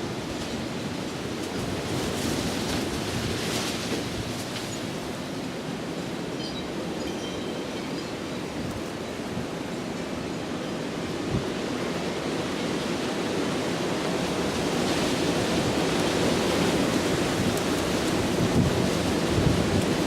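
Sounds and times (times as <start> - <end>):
strong gusty wind: 0.0 - 20.0.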